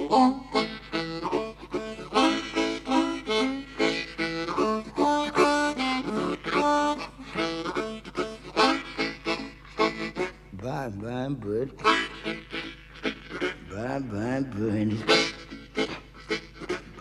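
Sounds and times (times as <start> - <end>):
blues harmonica playing fast: 0.0 - 17.0.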